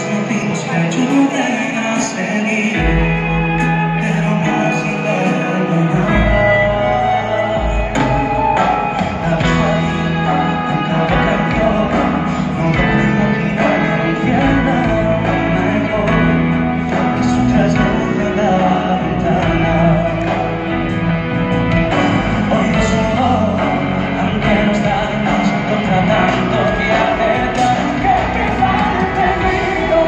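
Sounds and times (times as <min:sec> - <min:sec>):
man singing: 0:00.0 - 0:30.0
pop-rock band playing live: 0:00.0 - 0:30.0.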